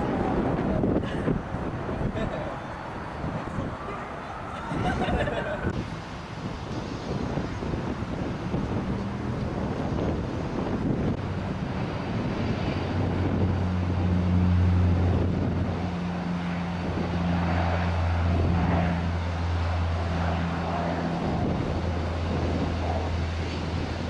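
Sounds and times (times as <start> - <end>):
airliner engines droning: 0.0 - 24.0
broad rushing noise: 0.0 - 24.0.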